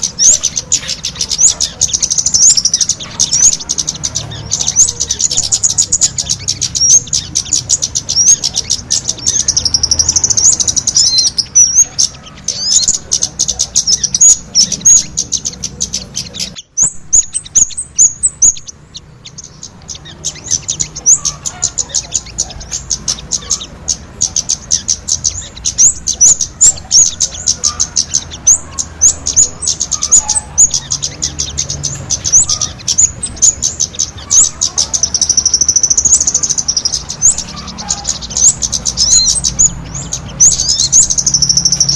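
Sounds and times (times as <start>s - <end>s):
high-pitched bird chirps: 0.0s - 41.9s.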